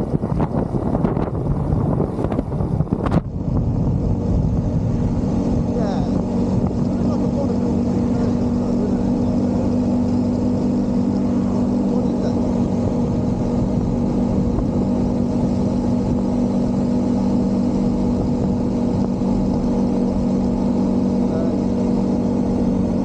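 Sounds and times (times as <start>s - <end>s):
motorcycle engine cruising: 0.0s - 23.0s
wind noise: 0.0s - 23.0s.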